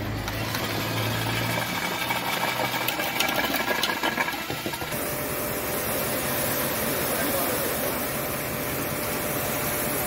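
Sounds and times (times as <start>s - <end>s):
drill motor mixing mortar: 0.0s - 10.0s
pressure washer spraying: 0.3s - 10.0s.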